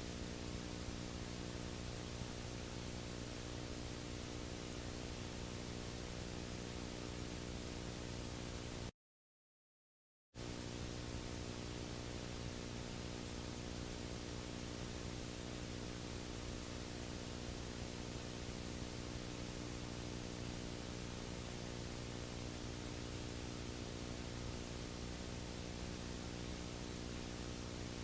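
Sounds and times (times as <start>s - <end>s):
low electrical hum: 0.0s - 8.9s, 10.4s - 28.0s
tape hiss: 0.0s - 8.9s, 10.4s - 28.0s.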